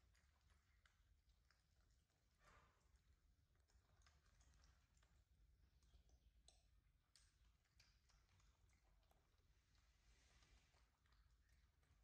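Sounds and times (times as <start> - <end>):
faint small clicks: 0.0 - 12.0.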